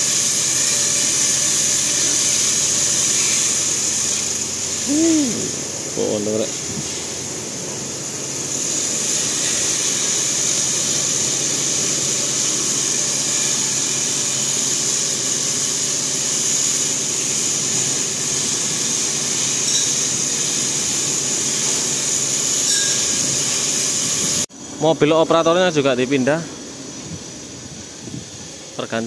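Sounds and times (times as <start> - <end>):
high-pitched hiss: 0.0 - 29.0.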